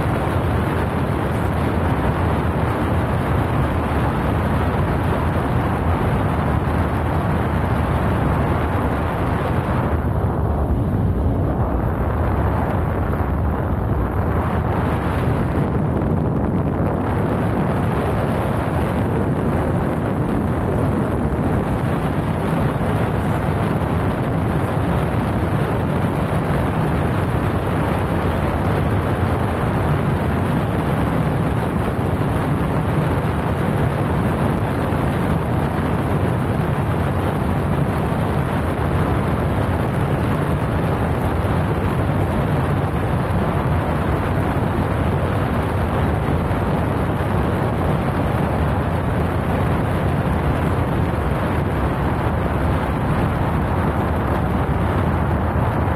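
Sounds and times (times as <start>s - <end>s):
paramotor engine and propeller: 0.0s - 55.9s
wind rushing over microphone: 0.0s - 55.9s.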